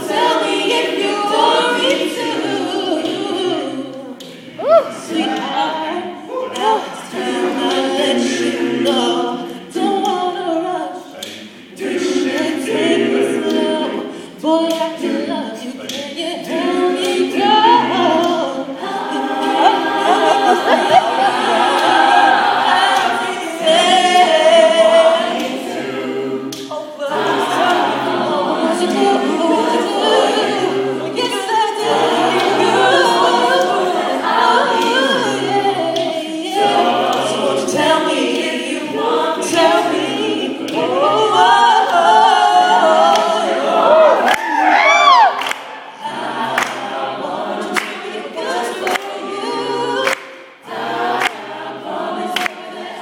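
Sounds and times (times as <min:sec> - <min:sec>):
a cappella choir singing: 0:00.0 - 0:53.0.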